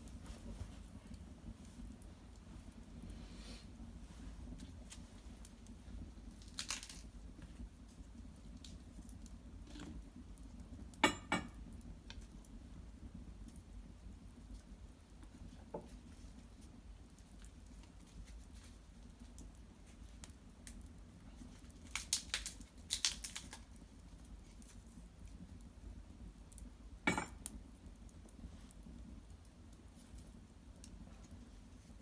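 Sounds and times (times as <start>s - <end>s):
small wood fire crackling: 0.0s - 32.0s.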